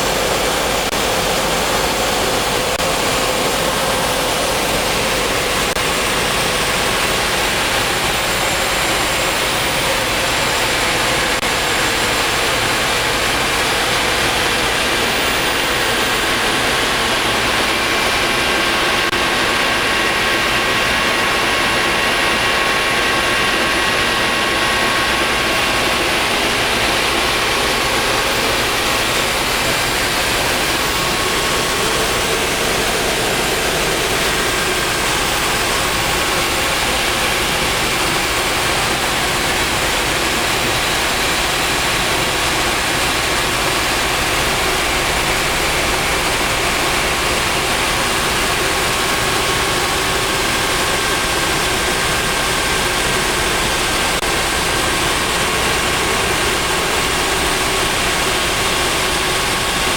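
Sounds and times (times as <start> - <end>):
helicopter cabin engine rush: 0.0 - 59.9.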